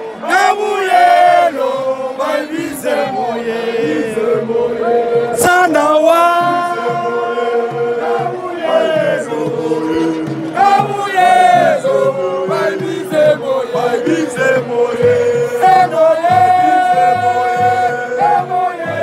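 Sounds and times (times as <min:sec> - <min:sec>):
crowd singing a chant: 0:00.0 - 0:19.0.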